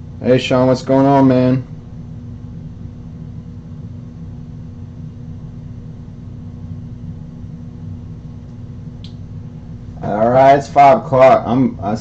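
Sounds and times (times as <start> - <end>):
steady low machine hum: 0.0 - 12.0.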